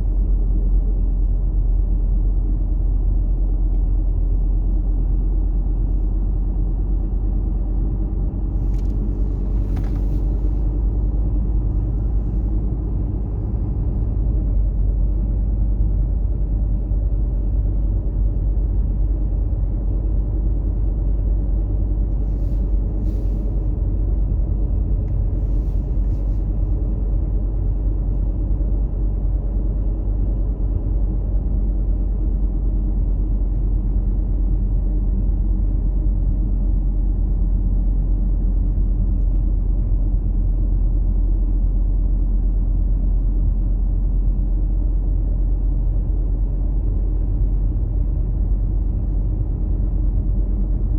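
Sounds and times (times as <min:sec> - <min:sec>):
vehicle road rumble: 0:00.0 - 0:50.9.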